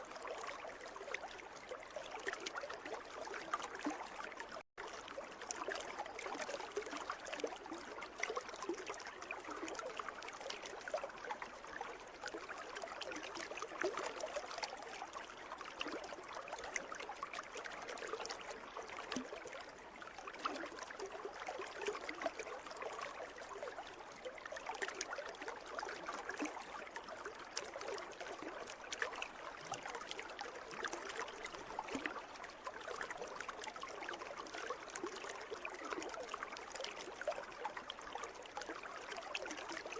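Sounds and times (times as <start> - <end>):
pool water trickling and splashing: 0.0 - 39.9.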